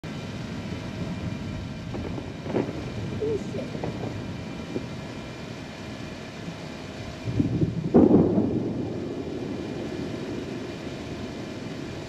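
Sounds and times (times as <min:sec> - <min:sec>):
wind rumble: 0:00.0 - 0:12.0.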